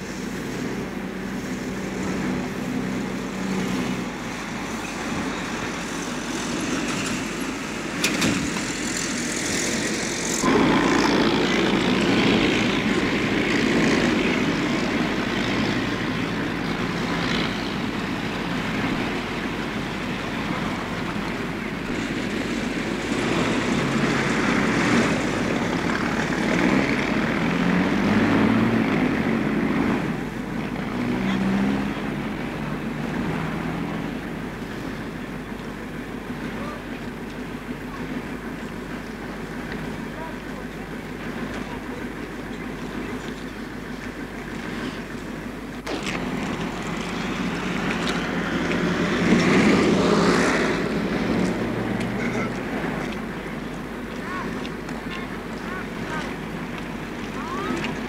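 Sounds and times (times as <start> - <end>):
traffic passing: 0.0 - 58.0.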